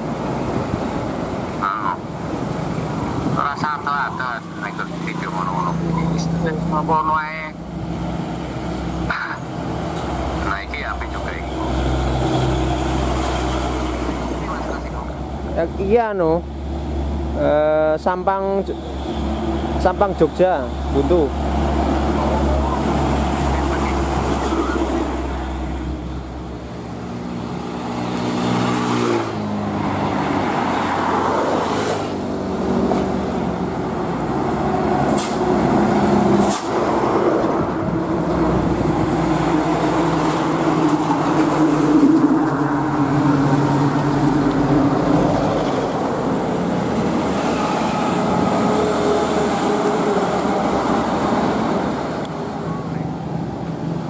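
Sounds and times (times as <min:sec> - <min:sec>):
trucks and cars passing: 0:00.0 - 0:54.0.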